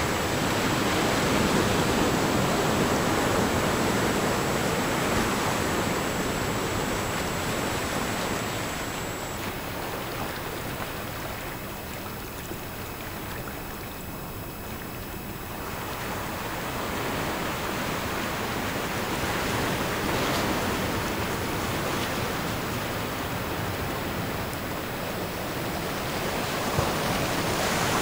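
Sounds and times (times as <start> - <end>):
faint high-pitched tones: 0.0 - 28.0.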